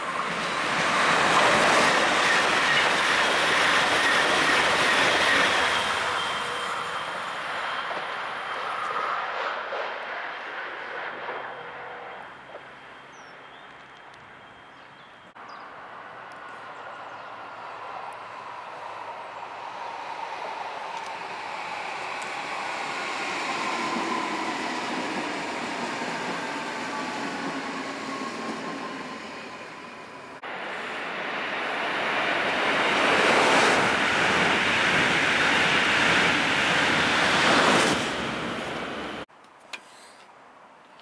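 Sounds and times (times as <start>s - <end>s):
electric train rushing past: 0.0s - 13.1s, 15.8s - 39.3s
train rolling noise: 0.0s - 14.3s, 16.0s - 39.3s.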